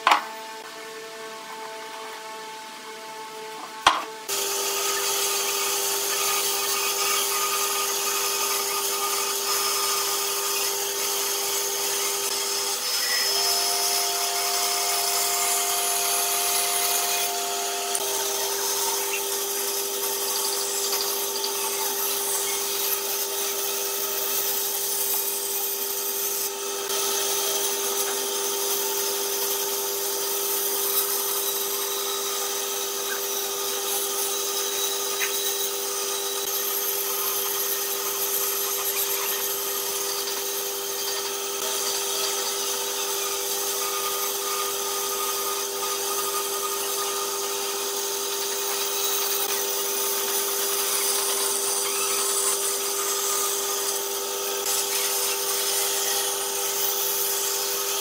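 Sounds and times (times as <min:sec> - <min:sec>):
bandsaw motor humming: 0:00.0 - 0:58.0
blade hissing through wood: 0:03.9 - 0:58.0.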